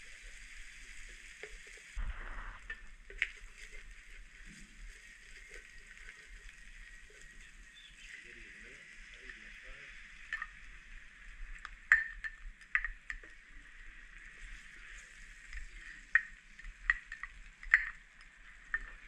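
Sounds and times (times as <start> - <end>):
aromatics sizzling in oil: 0.0 - 19.0.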